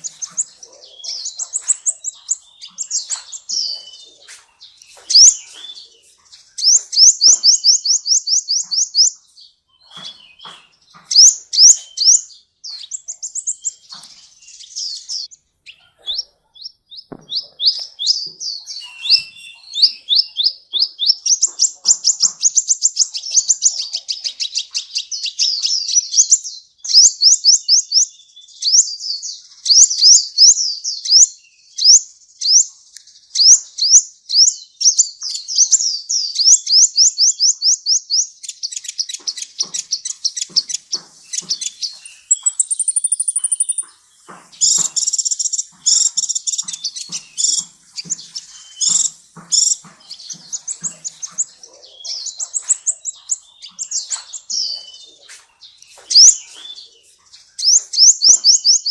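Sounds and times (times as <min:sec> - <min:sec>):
very high bird trill: 0:00.0 - 0:28.1, 0:33.4 - 0:58.9
sunbird chirping and chattering: 0:00.0 - 0:58.9.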